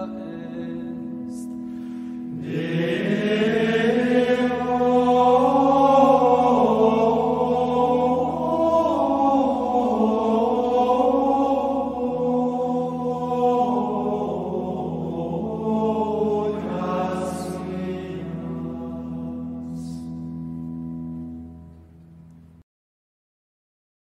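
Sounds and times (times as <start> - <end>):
vocal chant: 0.0 - 20.4
steady low drone: 0.0 - 22.6.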